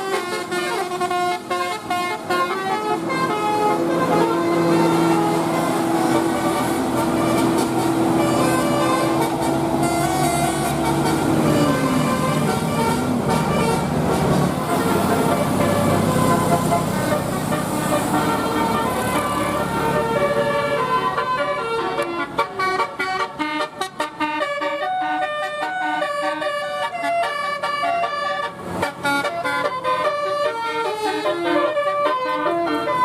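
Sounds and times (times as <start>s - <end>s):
engine rumble: 0.0s - 33.0s
musical bus horn melody: 0.0s - 33.0s.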